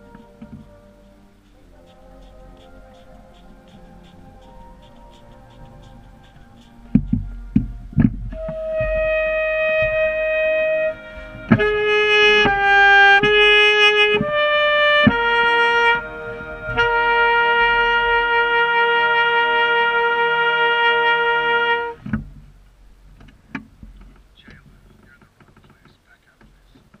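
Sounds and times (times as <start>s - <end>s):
saxophone notes: 0.0s - 22.0s.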